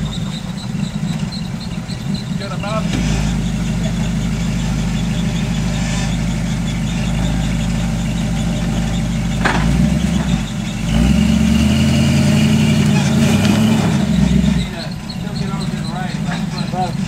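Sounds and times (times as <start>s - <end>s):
brief squeak: 0.0s - 10.8s, 12.7s - 17.0s
engine idling and revving: 0.0s - 17.0s.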